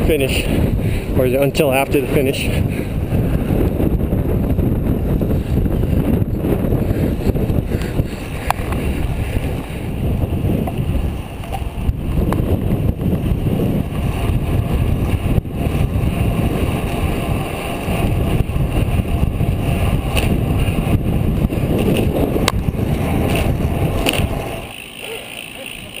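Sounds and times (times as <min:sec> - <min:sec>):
wind rushing over microphone: 0:00.0 - 0:24.7.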